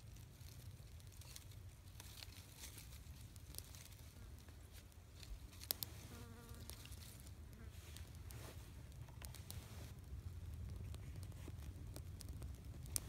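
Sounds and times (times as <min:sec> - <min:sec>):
twigs crackling in fire: 0:00.0 - 0:13.0.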